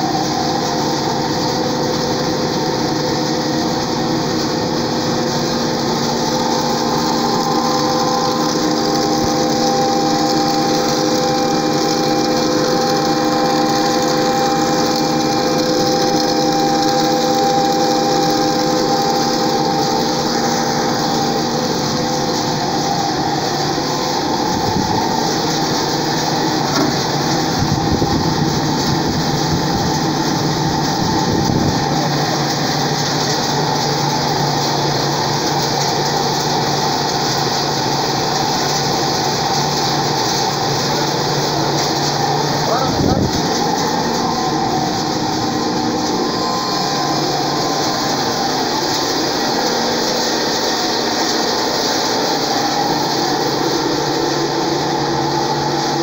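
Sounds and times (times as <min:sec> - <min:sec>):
motor hum: 0:00.0 - 0:56.0
oil press machinery running: 0:00.0 - 0:56.0.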